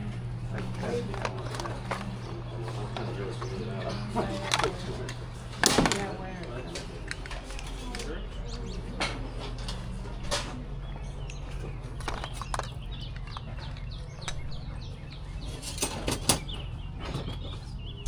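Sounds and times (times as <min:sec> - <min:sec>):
items rustling and knocking: 0:00.0 - 0:17.9
steady low hum: 0:00.0 - 0:18.0.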